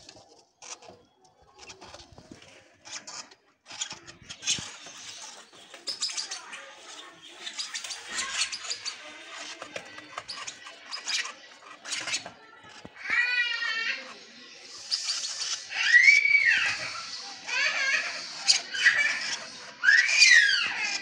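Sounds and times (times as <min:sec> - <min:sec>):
lovebird chicks chirping: 0:00.1 - 0:21.0.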